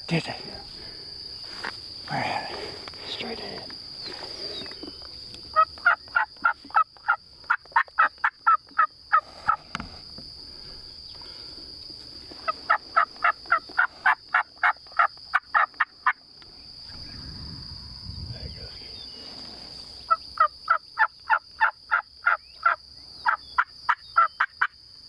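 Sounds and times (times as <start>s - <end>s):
high insect buzz: 0.0s - 25.0s.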